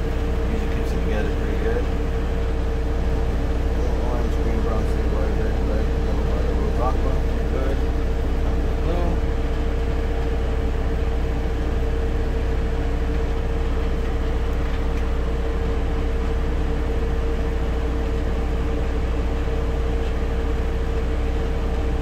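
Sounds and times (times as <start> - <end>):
machine drone: 0.0 - 22.0.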